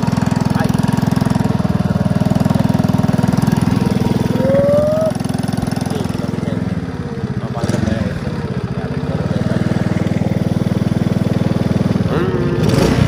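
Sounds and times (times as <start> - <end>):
motorcycle engine puttering: 0.0 - 13.0.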